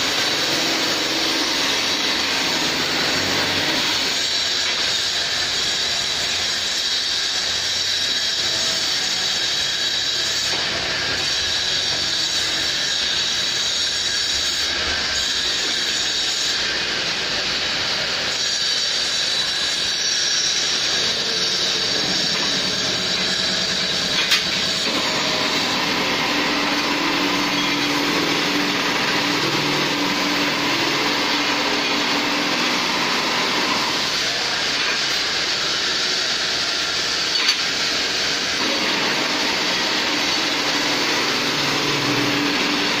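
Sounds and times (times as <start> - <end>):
stone polishing disc grinding: 0.0 - 43.0.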